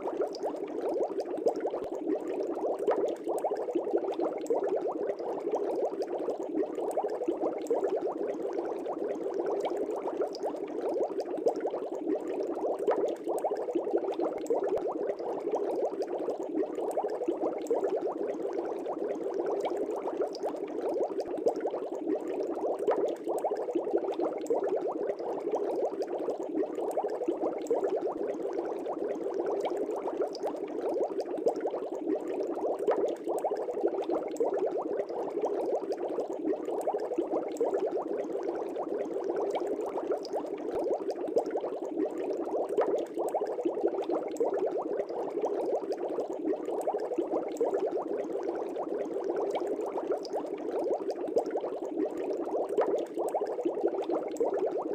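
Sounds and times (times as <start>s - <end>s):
aquarium air bubbling: 0.0s - 54.9s.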